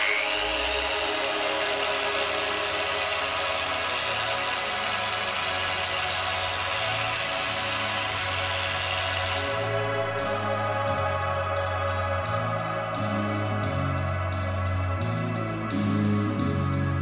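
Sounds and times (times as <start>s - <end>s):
polisher whirring: 0.0s - 15.8s.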